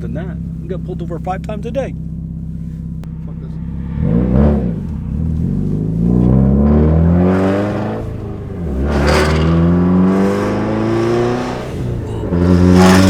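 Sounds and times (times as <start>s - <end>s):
car exhaust accelerating: 0.0s - 13.0s.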